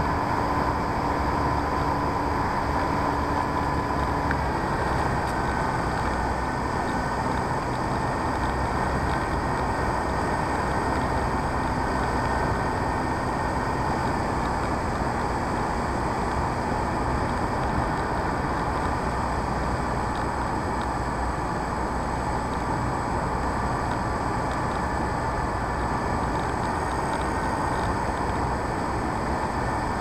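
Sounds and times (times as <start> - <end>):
model plane motor and propeller: 0.0 - 30.0.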